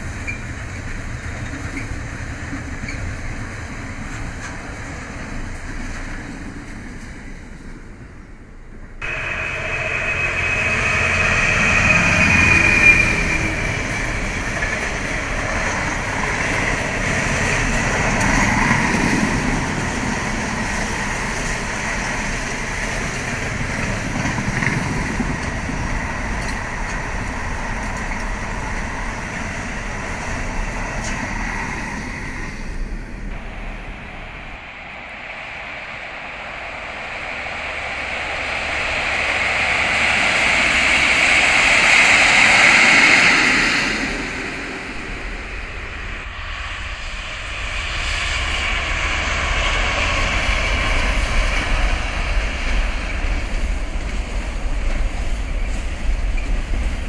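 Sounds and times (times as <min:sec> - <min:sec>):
train wheels clattering on rails: 0:00.0 - 0:57.0
high steady whine: 0:08.3 - 0:57.0.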